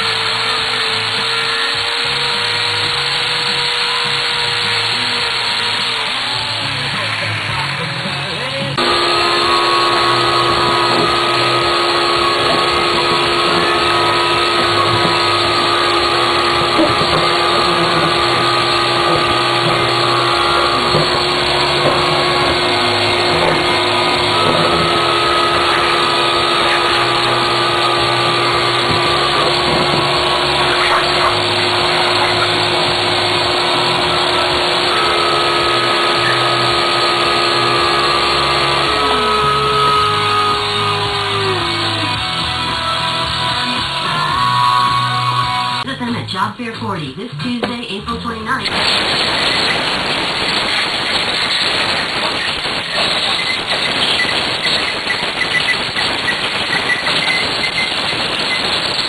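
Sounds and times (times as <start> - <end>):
handheld power tool running: 0.0 - 45.9, 48.7 - 59.0.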